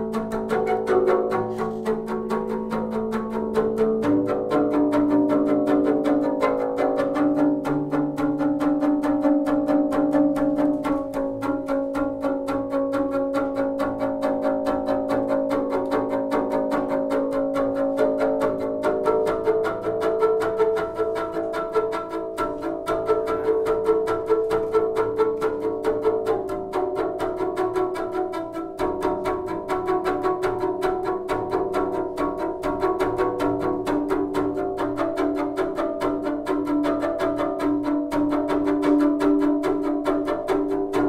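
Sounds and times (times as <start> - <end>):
bowed double bass: 0.0 - 41.0.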